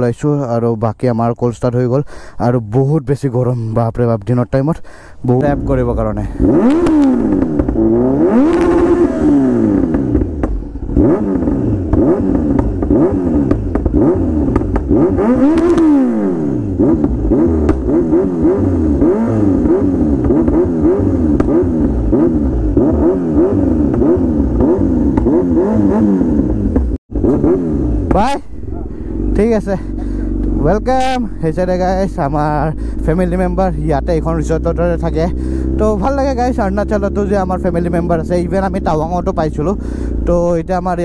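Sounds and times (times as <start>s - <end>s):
motorcycle engine revving: 5.4s - 41.0s.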